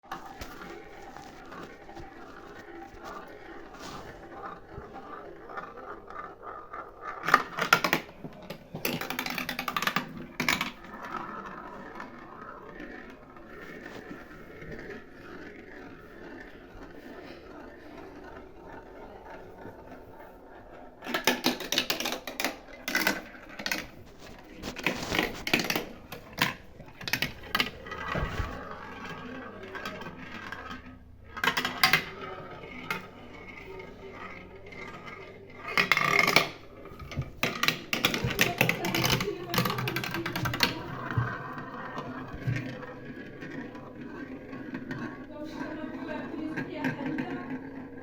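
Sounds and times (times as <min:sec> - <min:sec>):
marbles rattling on plastic track: 0:00.1 - 0:48.0.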